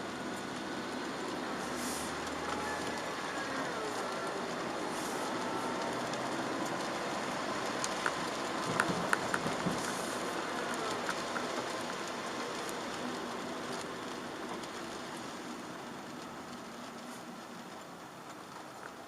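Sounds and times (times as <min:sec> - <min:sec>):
car engine: 0:00.0 - 0:19.0
tyres hissing on wet road: 0:00.0 - 0:19.0.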